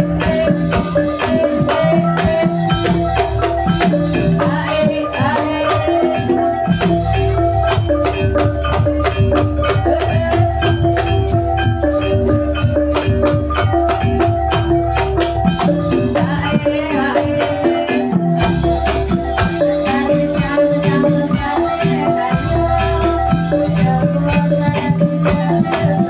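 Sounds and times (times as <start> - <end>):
quick steady percussion beat: 0.0 - 26.0
struck keyed instruments ringing: 0.0 - 26.0.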